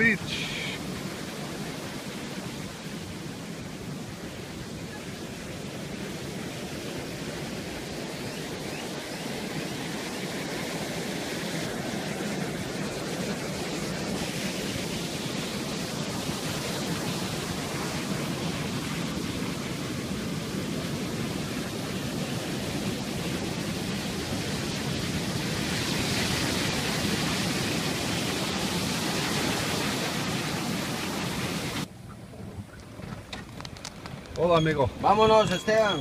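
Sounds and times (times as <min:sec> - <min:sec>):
surf breaking on sandy beach: 0:00.0 - 0:31.9.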